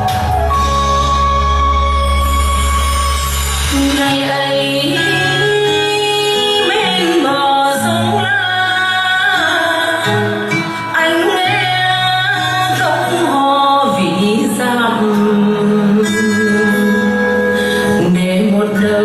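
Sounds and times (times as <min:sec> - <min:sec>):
instrumental backing: 0:00.0 - 0:19.0
person singing: 0:03.7 - 0:19.0.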